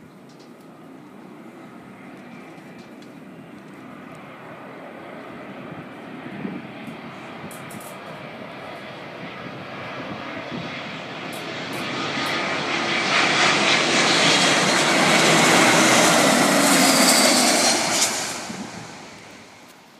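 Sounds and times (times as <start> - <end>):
jet engines roaring: 0.2 - 19.9.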